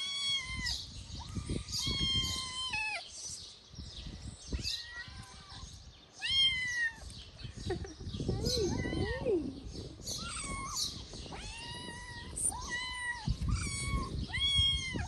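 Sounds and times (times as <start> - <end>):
kittens meowing: 0.0 - 3.1, 4.5 - 7.1, 8.2 - 15.0.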